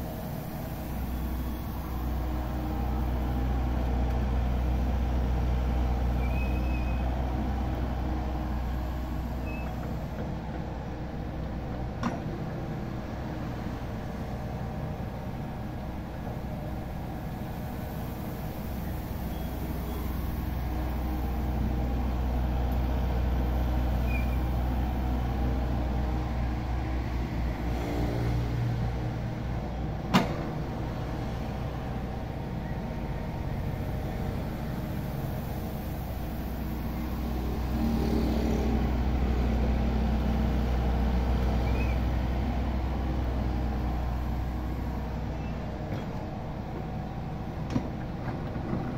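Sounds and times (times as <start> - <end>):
vehicle engine humming: 0.0 - 48.9.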